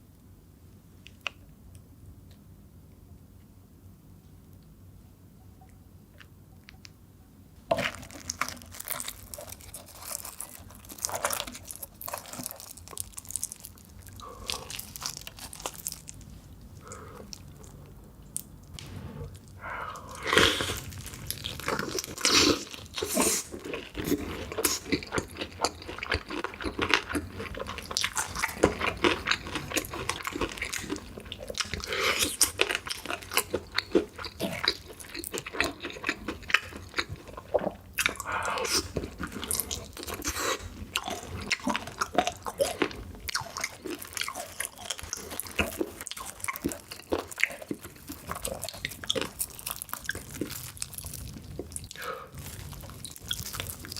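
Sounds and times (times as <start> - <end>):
crunchy bites and chewing: 7.7 - 17.8, 18.4 - 53.9.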